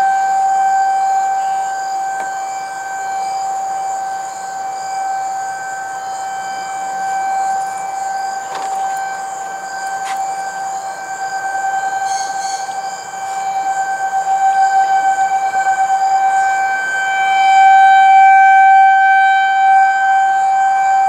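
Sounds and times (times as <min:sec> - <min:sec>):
warning siren steady tone: 0:00.0 - 0:21.0.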